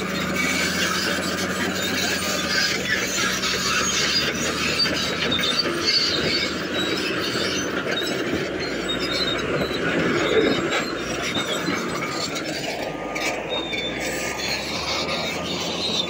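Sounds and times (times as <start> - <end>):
bulldozer tracks squealing and clanking: 0.0 - 16.0
diesel engine under load: 0.0 - 16.0.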